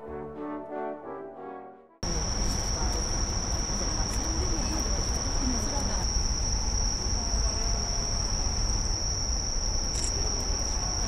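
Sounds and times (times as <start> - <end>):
crickets trilling: 2.0 - 11.0.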